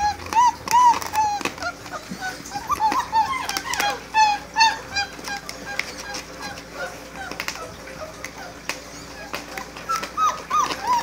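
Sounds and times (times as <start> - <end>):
puppies whimpering and squeaking: 0.0 - 11.0.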